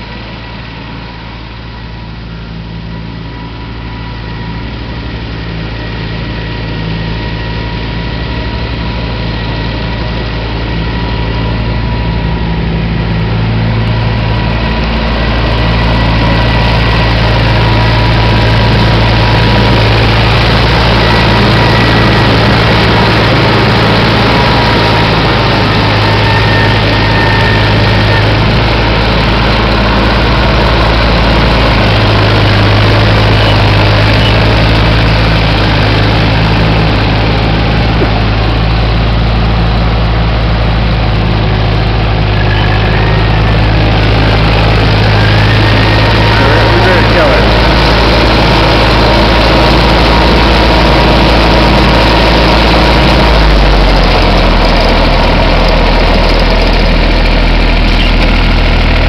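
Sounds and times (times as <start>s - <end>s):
diesel tractor running: 0.0s - 59.0s.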